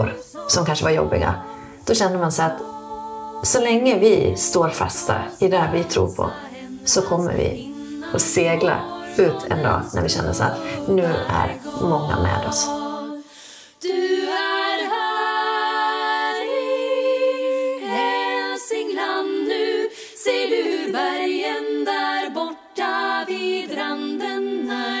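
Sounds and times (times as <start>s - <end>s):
a cappella singing: 0.0s - 25.0s.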